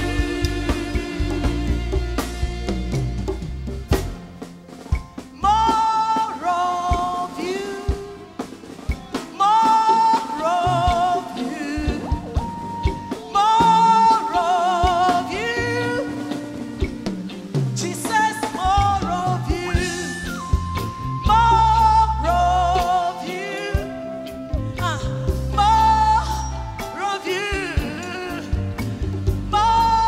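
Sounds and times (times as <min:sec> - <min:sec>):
woman singing gospel: 0:00.0 - 0:02.6, 0:05.4 - 0:16.8, 0:17.7 - 0:30.0
live band with drums: 0:00.0 - 0:30.0.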